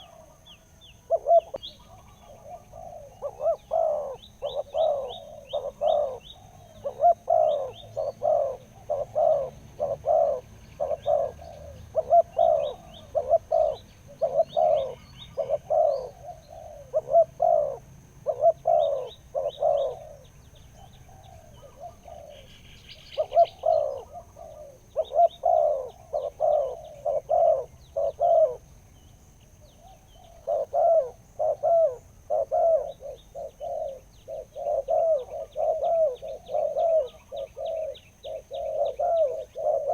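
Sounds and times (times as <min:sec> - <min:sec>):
dove cooing: 0:00.0 - 0:28.8, 0:29.6 - 0:39.9
small birds chirping: 0:00.0 - 0:39.9.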